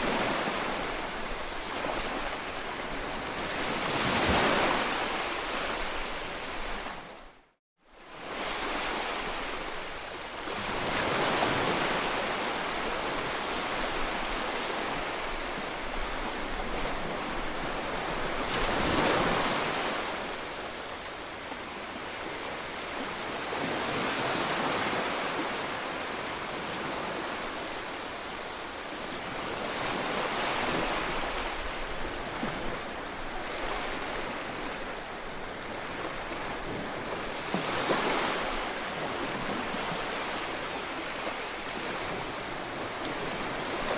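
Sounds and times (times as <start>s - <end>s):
small waves breaking on beach: 0.0s - 7.3s, 7.9s - 43.9s.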